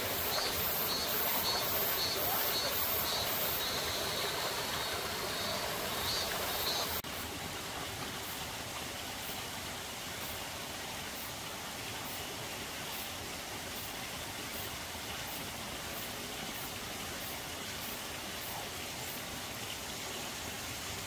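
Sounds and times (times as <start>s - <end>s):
stream water running: 0.0s - 21.0s.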